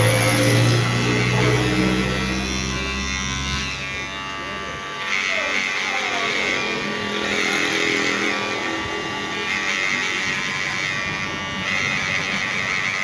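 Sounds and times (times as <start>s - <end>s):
electric hair clipper buzzing: 0.0s - 13.0s.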